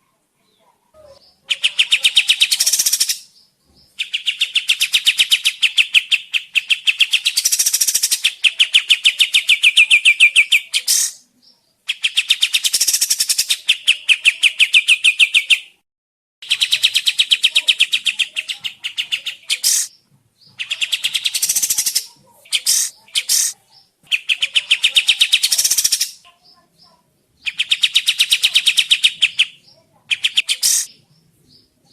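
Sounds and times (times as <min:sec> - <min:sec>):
bird singing a chattering trill: 0:01.0 - 0:15.7, 0:16.4 - 0:31.9.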